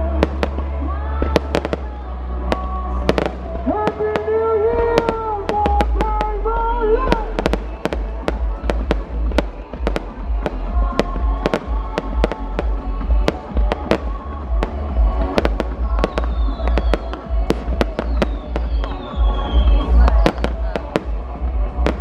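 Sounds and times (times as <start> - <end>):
fireworks banging: 0.0 - 22.0
music playing: 0.0 - 22.0.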